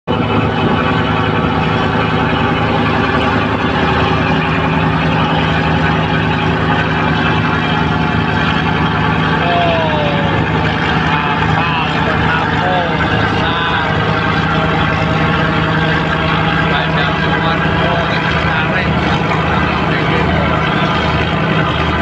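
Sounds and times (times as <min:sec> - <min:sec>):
boat diesel engine humming: 0:00.1 - 0:22.0.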